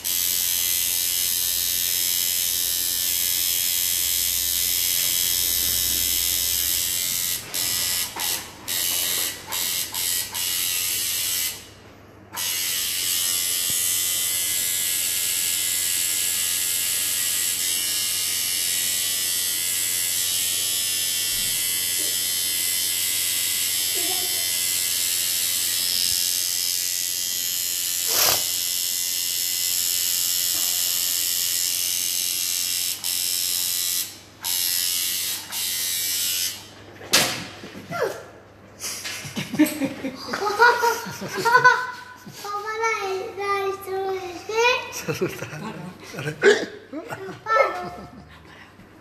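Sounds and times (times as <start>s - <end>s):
tattoo machine buzzing: 0.0s - 37.2s, 40.4s - 43.8s.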